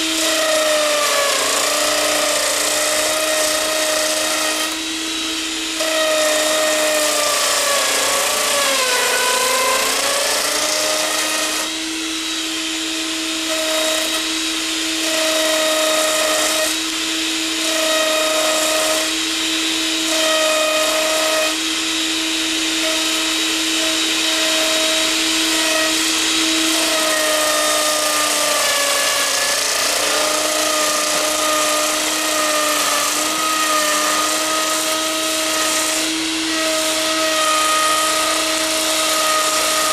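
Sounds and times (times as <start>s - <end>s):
hiss of cutting wood: 0.0s - 39.9s
wood router whining: 0.0s - 39.9s.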